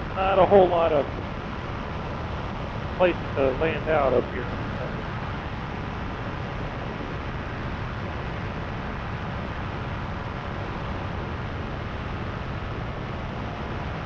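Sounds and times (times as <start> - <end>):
paramotor engine and propeller: 0.0 - 14.0
wind rush over microphone: 0.0 - 14.0.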